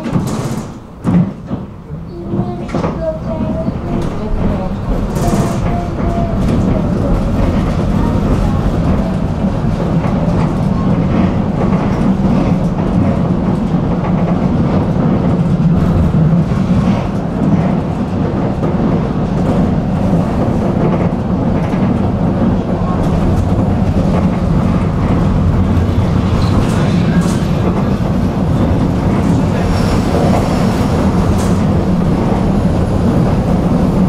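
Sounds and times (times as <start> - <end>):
tram wheels rumbling on rails: 0.0 - 34.0.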